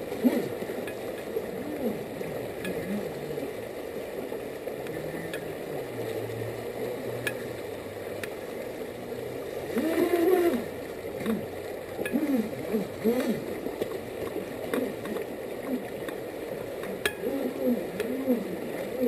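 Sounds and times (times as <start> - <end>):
water rushing over rapids: 0.0 - 19.0.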